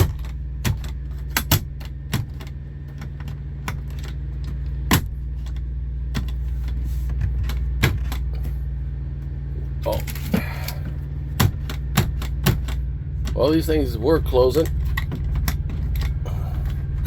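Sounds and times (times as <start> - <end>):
sharp clicks and knocks: 0.0 - 8.5, 9.9 - 13.6, 14.5 - 17.0
truck power unit humming: 0.0 - 17.0.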